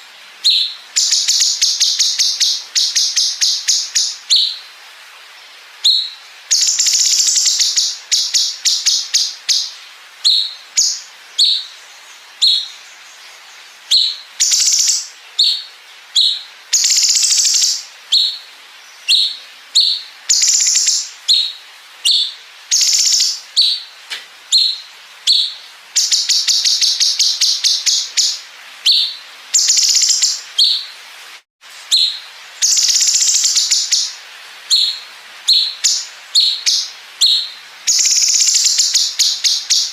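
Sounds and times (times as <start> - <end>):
bird chirps and rapid trills: 0.4 - 4.6, 5.8 - 30.9, 31.9 - 39.9.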